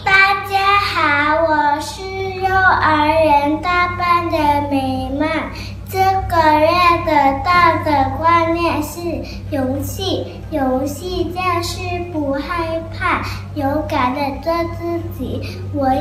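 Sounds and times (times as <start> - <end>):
girl chanting in sing-song voice: 0.0 - 16.0
steady low hum: 0.0 - 16.0.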